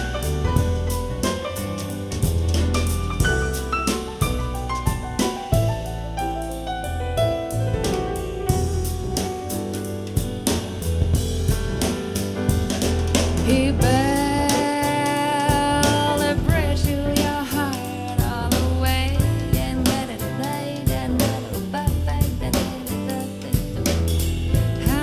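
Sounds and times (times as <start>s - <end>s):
drum kit bass and guitar: 0.0s - 25.0s.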